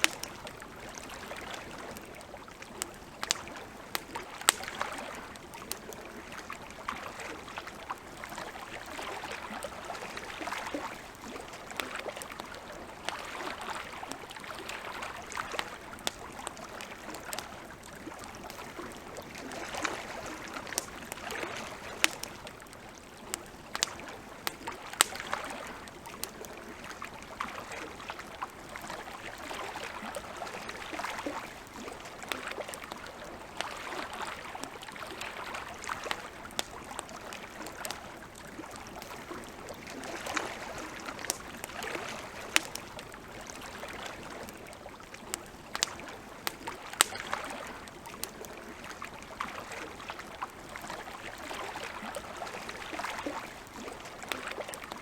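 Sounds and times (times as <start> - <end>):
campfire crackling and popping: 0.0 - 55.0
soft lapping water: 0.0 - 55.0.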